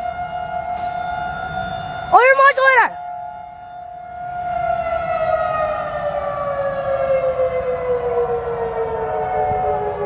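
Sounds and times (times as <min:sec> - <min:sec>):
warning siren wailing: 0:00.0 - 0:10.0.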